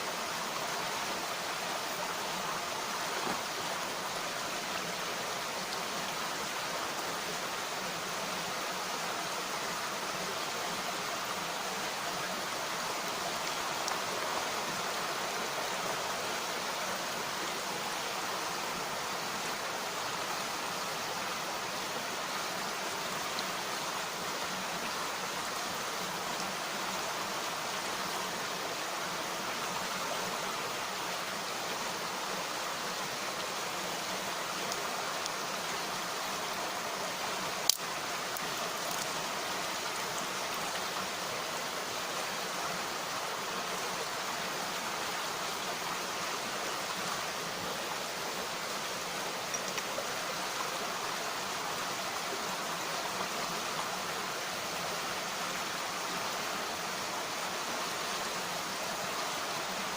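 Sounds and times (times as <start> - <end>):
stream rushing water: 0.0 - 59.9.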